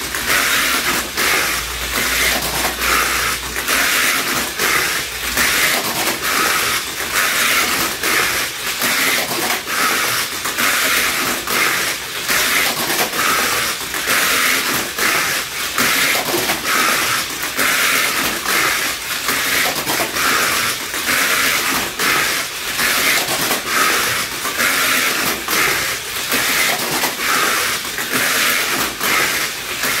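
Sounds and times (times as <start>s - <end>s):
high-pitched electric motor whir: 0.0s - 30.0s
plastic track rattling: 0.0s - 30.0s.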